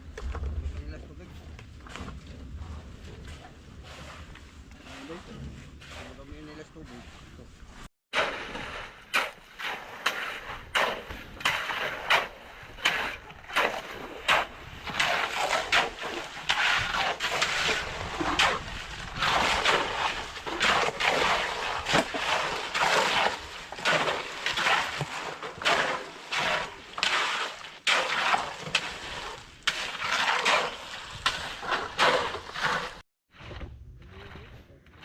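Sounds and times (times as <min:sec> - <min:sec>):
shovel scraping wet concrete: 0:02.8 - 0:07.5, 0:08.1 - 0:35.0.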